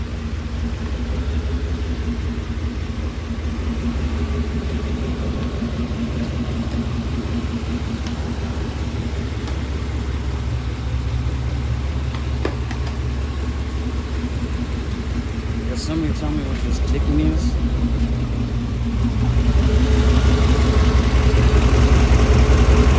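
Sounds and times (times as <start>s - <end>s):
engine ticking: 0.0s - 22.9s
truck engine idling: 0.0s - 22.9s.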